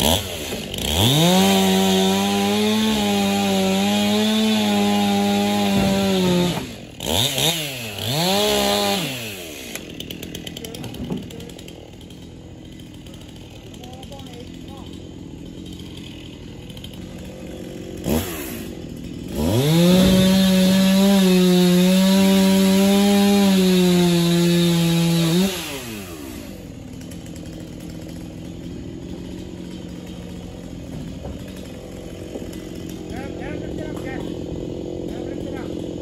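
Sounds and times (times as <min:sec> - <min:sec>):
chainsaw revving: 0:00.0 - 0:36.0.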